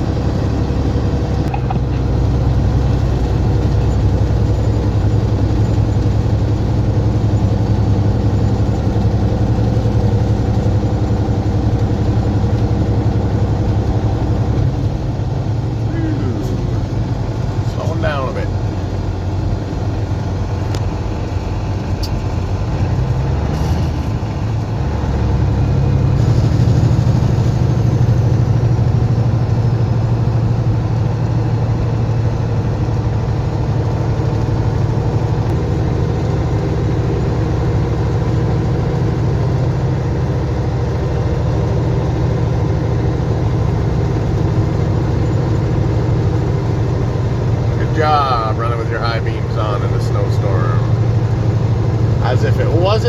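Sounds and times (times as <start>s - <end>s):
truck diesel engine drone: 0.0s - 53.0s.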